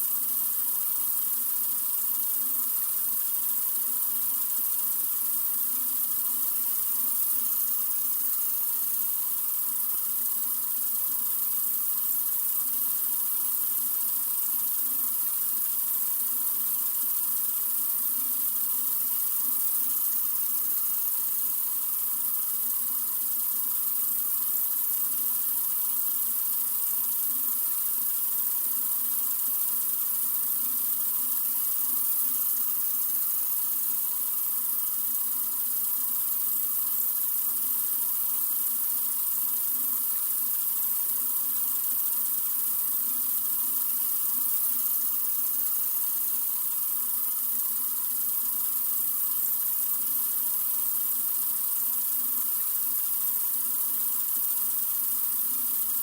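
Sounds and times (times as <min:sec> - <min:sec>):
sink faucet running: 0:00.0 - 0:56.0.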